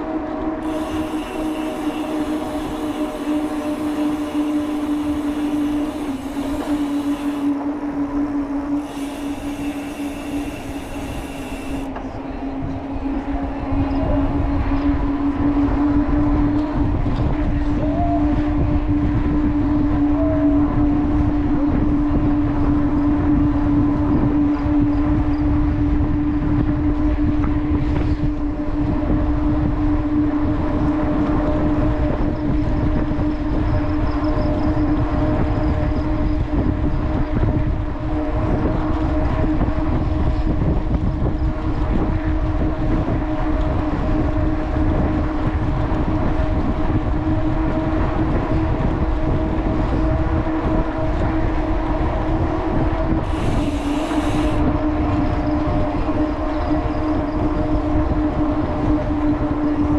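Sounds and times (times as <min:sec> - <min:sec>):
low hum: 0:00.0 - 0:59.9
wind rushing over microphone: 0:00.0 - 0:59.9.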